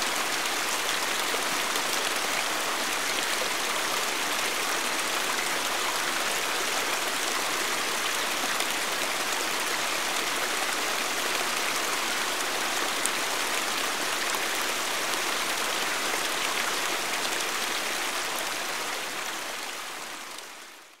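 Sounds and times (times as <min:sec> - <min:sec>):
mountain stream rushing: 0:00.0 - 0:20.9.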